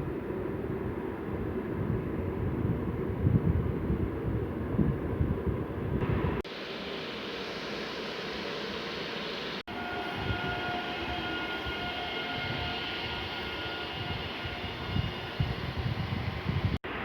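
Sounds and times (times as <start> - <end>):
train high whine: 0.0 - 5.2, 6.0 - 17.0.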